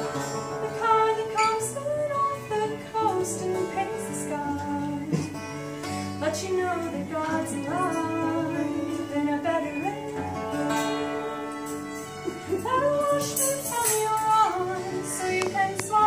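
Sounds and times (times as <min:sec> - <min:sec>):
woman singing: 0:00.0 - 0:05.4, 0:06.1 - 0:16.0
acoustic guitar: 0:00.0 - 0:16.0.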